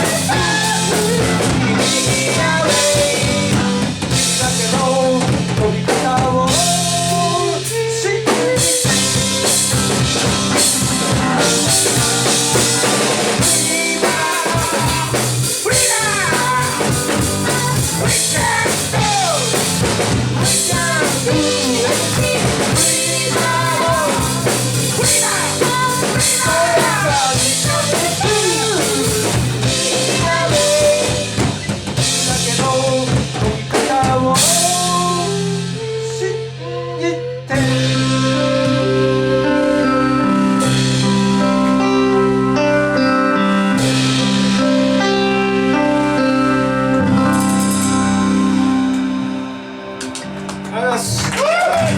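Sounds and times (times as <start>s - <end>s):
drum kit: 0.0s - 36.6s, 37.5s - 42.8s, 43.6s - 51.9s
keyboard chords: 0.0s - 51.9s.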